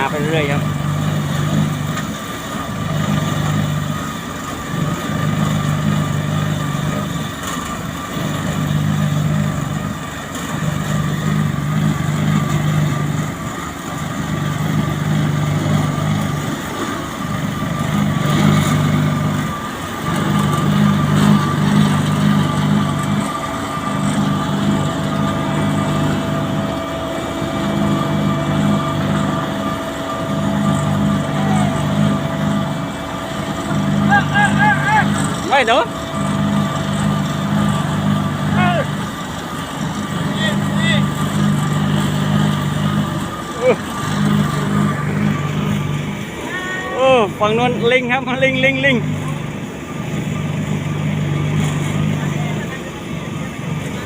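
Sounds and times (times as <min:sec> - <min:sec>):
diesel engine pulsing hum: 0:00.0 - 0:54.0
steady high whine: 0:00.0 - 0:54.0.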